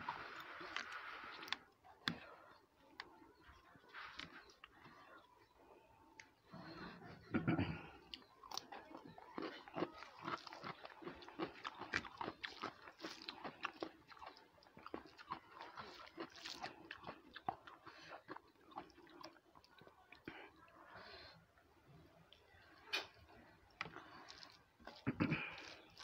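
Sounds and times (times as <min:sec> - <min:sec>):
close chewing with wet clicks: 0:00.2 - 0:06.5, 0:07.9 - 0:20.5, 0:22.3 - 0:26.0.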